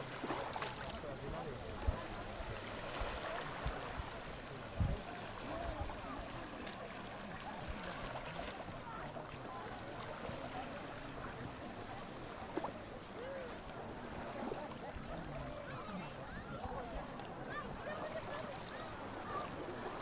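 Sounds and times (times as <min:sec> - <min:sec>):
distant crowd chatter: 0:00.0 - 0:20.0.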